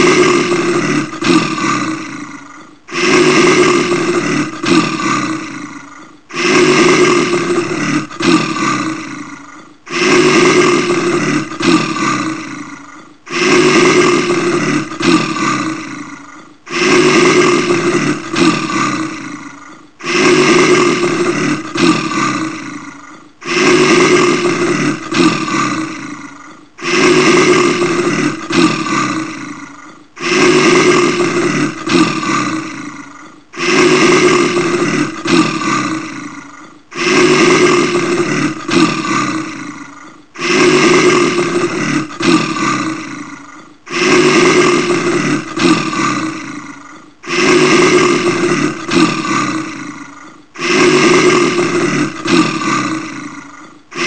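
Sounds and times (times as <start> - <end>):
bear roaring: 0.0 - 54.0.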